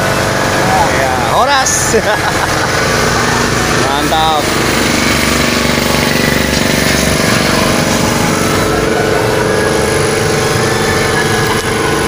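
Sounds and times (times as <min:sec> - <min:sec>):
engine running roughly: 0:00.0 - 0:12.0.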